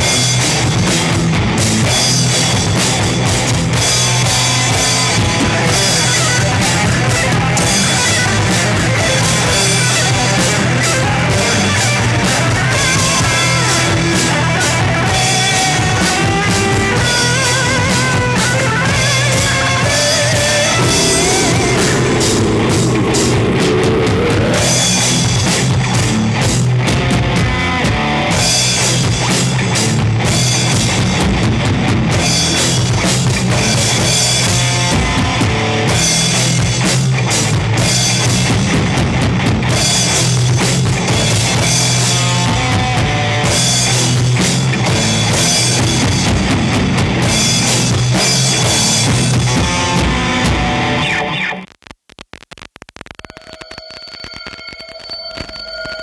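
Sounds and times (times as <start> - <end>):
drum kit pounding: 0.0 - 51.0
heavy metal music: 0.0 - 51.7.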